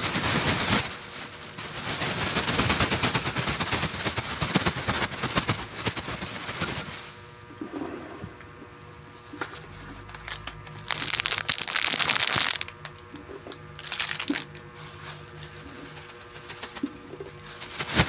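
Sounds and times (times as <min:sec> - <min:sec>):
plastic packaging crinkling: 0:00.0 - 0:07.2, 0:09.9 - 0:18.0.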